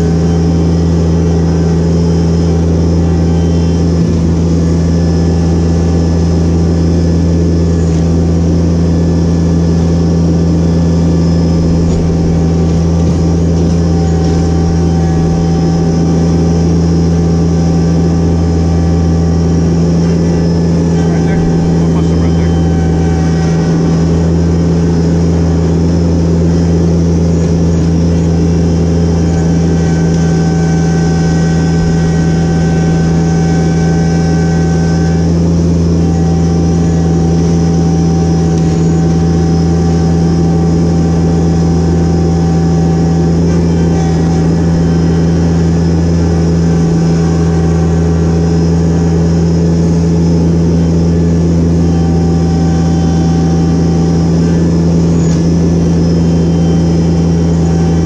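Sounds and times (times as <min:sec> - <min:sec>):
thin whine: 0:00.0 - 0:58.0
tractor diesel engine running: 0:00.0 - 0:58.0.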